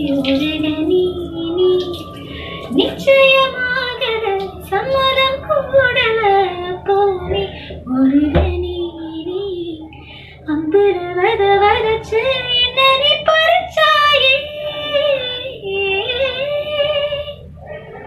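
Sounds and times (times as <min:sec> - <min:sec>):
high-pitched singing voice: 0:00.0 - 0:17.5.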